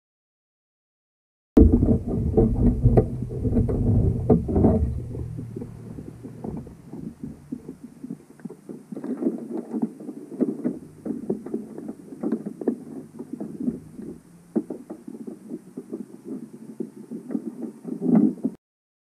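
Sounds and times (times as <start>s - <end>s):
muffled underwater knocks and crackles: 1.6s - 18.6s.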